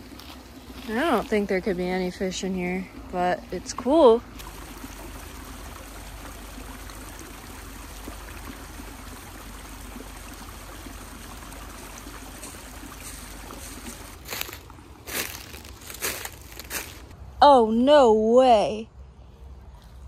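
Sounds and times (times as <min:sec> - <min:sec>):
stream trickling over waterfalls: 0:00.0 - 0:17.2.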